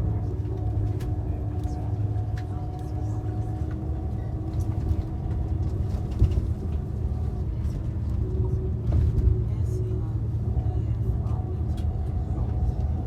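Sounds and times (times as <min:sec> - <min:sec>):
vehicle rumble from inside: 0:00.0 - 0:13.0.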